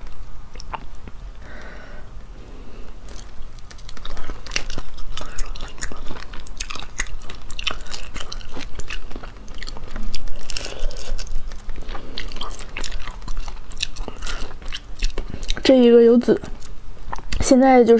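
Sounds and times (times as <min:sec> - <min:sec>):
biting and chewing crayfish: 0:00.0 - 0:17.9.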